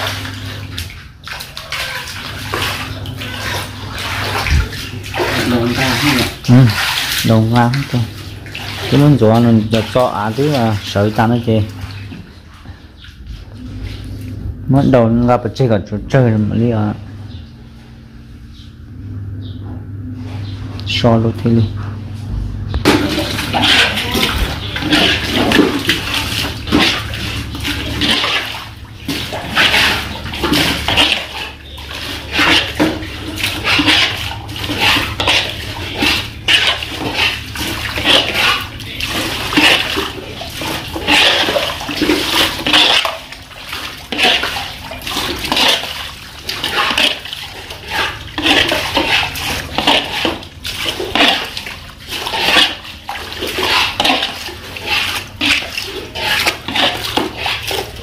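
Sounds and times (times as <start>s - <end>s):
water splashing into bucket: 0.0s - 13.2s, 22.8s - 58.0s
dipper scooping water: 0.0s - 17.0s, 22.8s - 58.0s.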